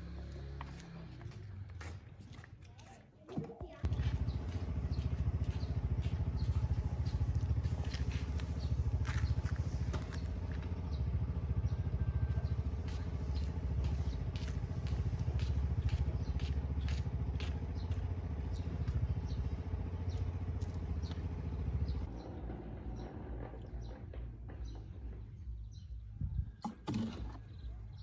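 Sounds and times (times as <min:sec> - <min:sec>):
engine running with low pulse: 0:00.0 - 0:02.1, 0:03.8 - 0:28.0.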